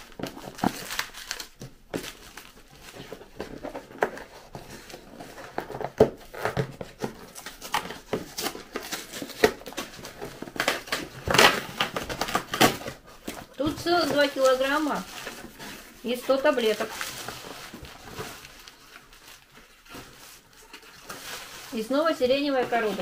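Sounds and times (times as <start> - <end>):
cardboard tearing: 0.0 - 23.0
plastic wrap crinkling: 0.0 - 23.0.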